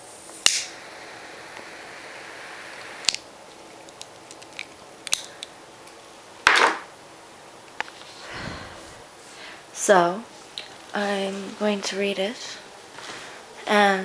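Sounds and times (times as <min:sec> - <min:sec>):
faint hiss: 0:00.0 - 0:06.3, 0:07.0 - 0:14.0.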